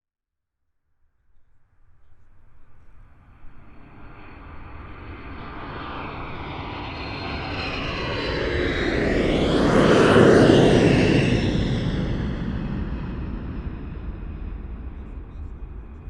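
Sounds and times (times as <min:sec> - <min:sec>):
airplane flying overhead: 0:01.4 - 0:16.0.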